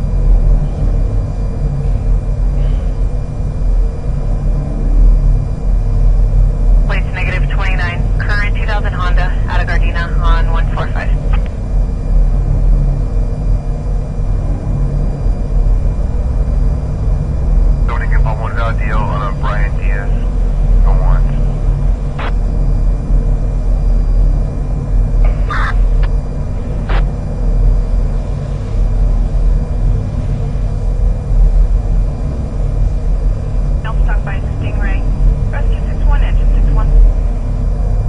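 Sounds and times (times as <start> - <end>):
low rumbling drone: 0.0 - 38.0.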